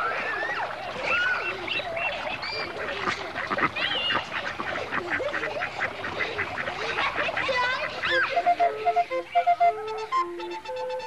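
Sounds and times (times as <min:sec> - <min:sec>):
bird calls and chirps: 0:00.0 - 0:11.0
ducks quacking: 0:00.0 - 0:11.0.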